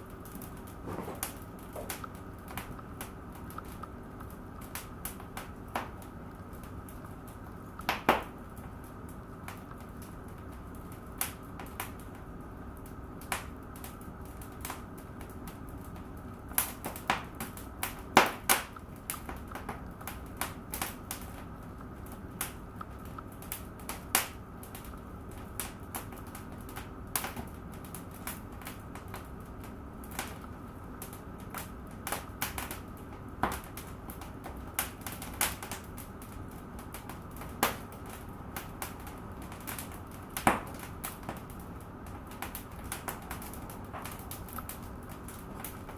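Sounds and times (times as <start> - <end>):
fire crackling and popping: 0.0 - 45.9
steady low hiss: 0.0 - 45.9.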